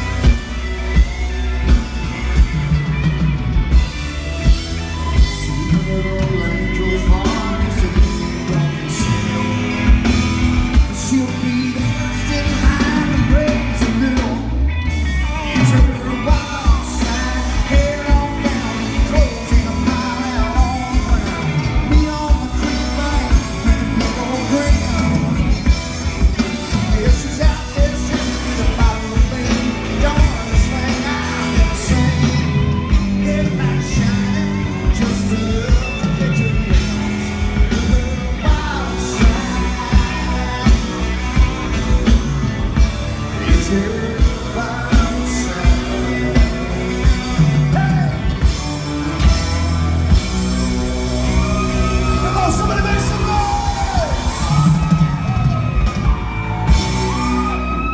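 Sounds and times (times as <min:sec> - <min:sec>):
live rock band playing: 0:00.0 - 0:57.9
man singing: 0:04.9 - 0:49.7, 0:51.1 - 0:55.6.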